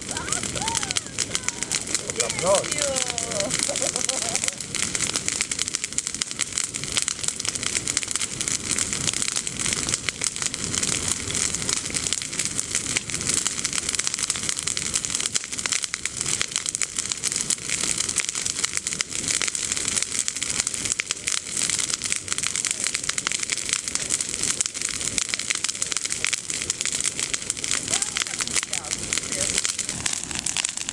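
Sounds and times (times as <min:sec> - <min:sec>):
bonfire crackling and popping: 0:00.0 - 0:30.9.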